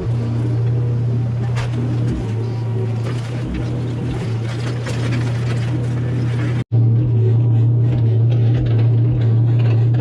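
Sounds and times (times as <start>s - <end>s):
mini excavator engine running: 0.0s - 10.0s.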